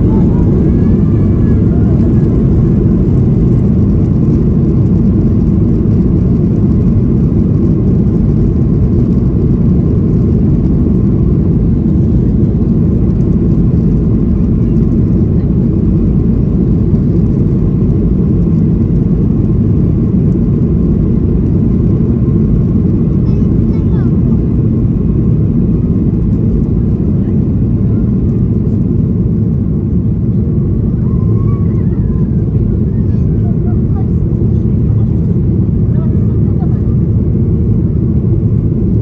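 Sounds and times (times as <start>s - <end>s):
jet engines idling: 0.0s - 39.0s
wheels rolling on taxiway: 0.0s - 39.0s.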